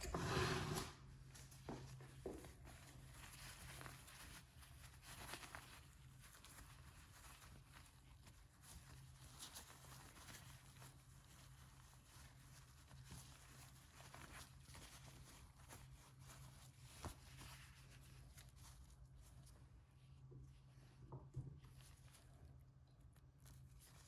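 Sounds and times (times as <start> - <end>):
faint low hum: 1.3 - 24.0.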